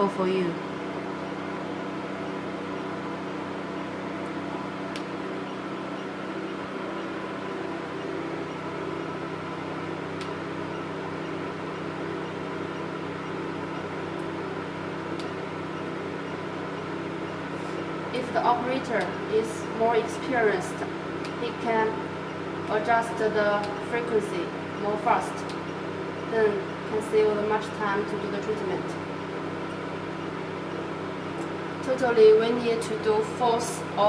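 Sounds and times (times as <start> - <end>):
cooling machine hum: 0.0 - 34.0.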